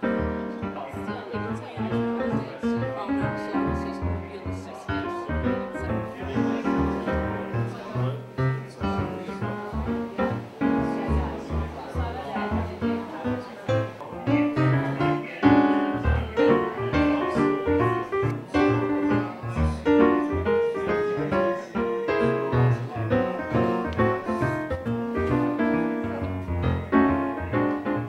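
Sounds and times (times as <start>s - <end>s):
piano background music: 0.0s - 28.0s.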